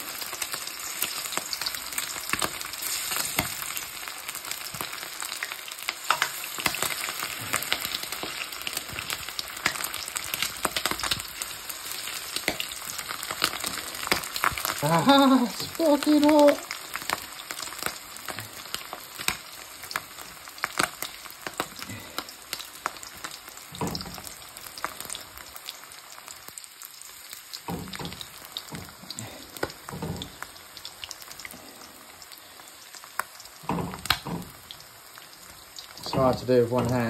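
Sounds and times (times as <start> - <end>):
squid deep-frying in oil: 0.0 - 37.0.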